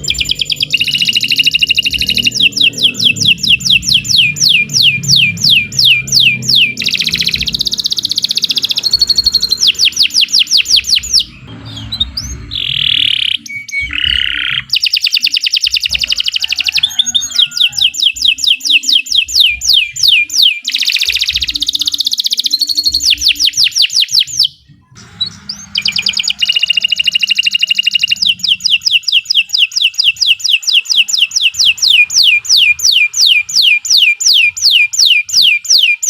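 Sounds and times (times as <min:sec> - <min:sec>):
canary singing: 0:00.0 - 0:36.0.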